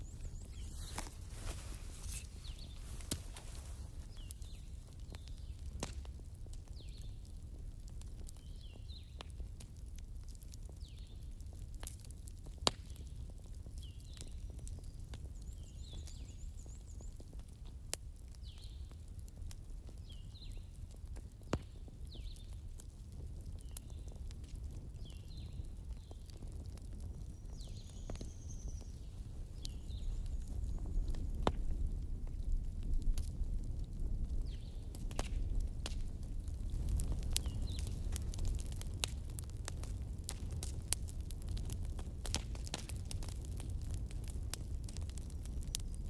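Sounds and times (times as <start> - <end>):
campfire crackling: 0.0 - 46.0
fire popping: 0.0 - 46.0.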